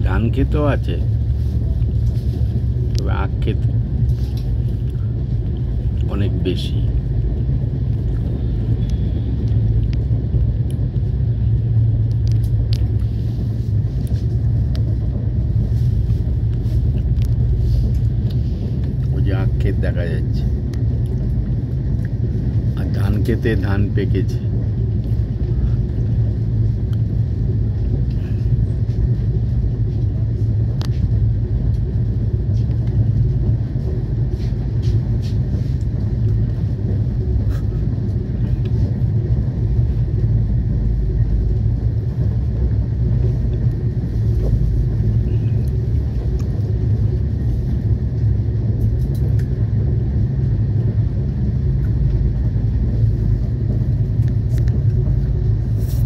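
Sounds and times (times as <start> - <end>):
train rumbling inside carriage: 0.0 - 56.0.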